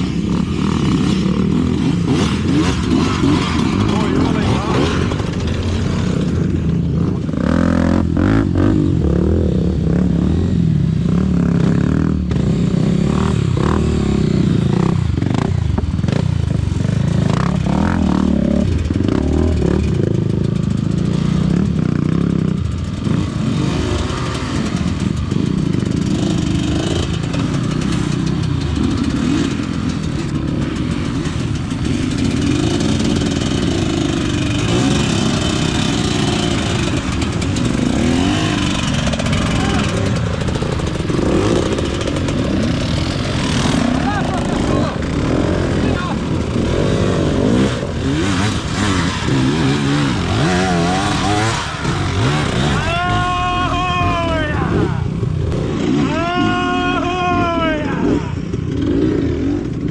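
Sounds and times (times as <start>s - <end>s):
motorcycle engine revving: 0.0s - 56.2s, 57.2s - 59.9s.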